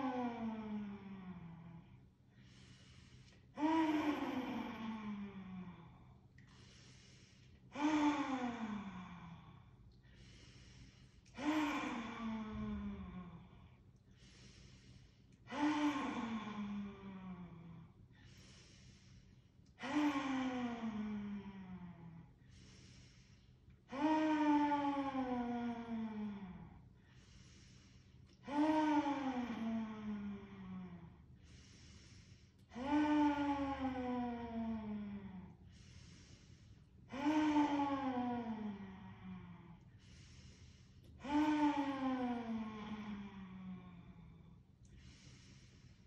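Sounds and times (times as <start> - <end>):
woman breathing in: 0.0 - 46.0.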